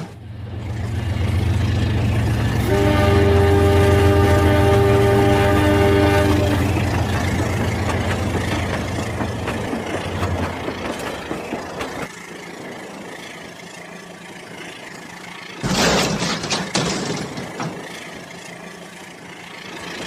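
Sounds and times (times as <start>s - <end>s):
toy train engine rumble: 0.0s - 20.0s.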